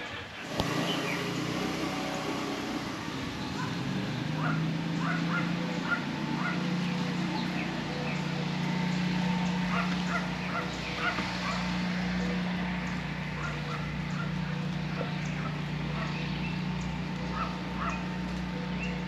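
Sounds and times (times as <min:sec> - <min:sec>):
birds chirping and cawing: 0:00.0 - 0:19.0.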